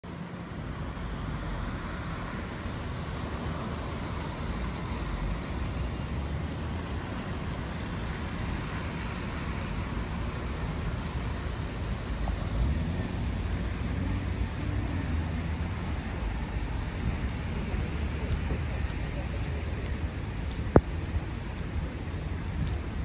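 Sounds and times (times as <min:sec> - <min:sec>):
city traffic on wet streets: 0:00.0 - 0:23.0.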